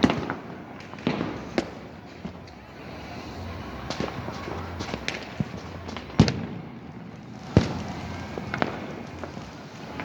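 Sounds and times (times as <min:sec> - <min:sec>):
loud firework bangs: 0:00.0 - 0:02.4, 0:03.6 - 0:10.0
firework pops and crackles: 0:00.0 - 0:10.0.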